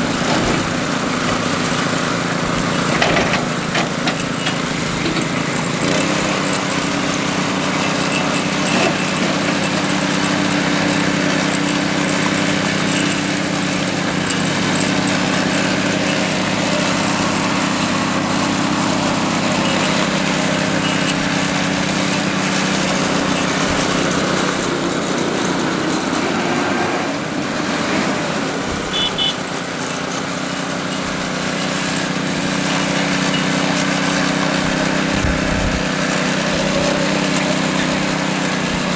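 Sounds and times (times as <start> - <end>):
small petrol engine running: 0.0 - 38.9.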